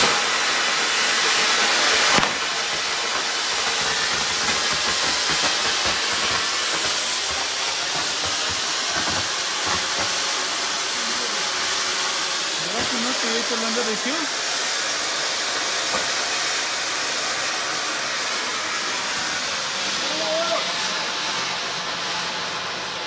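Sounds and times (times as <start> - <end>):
firework fountain hissing: 0.0 - 23.0.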